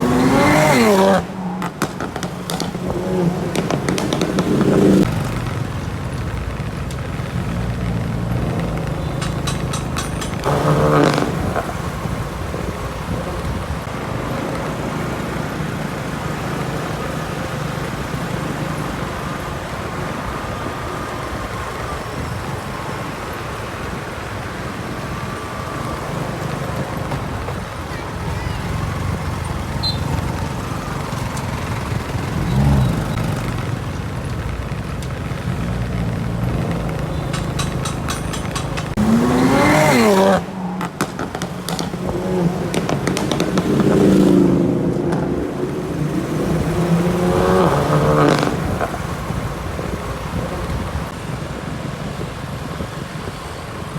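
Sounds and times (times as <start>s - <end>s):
car engine revving: 0.0s - 51.2s
exhaust pops: 0.0s - 51.3s
car engine idling: 0.0s - 53.9s.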